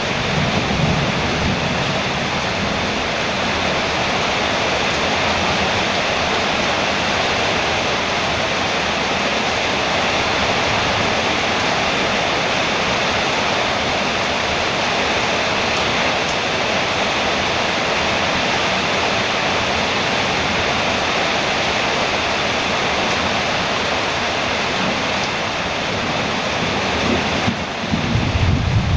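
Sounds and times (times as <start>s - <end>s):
heavy rain on a metal roof: 0.0s - 28.9s.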